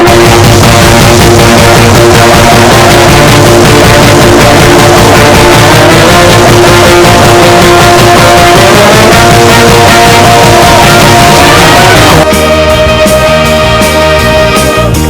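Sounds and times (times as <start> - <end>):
instrumental rock music: 0.0 - 15.0.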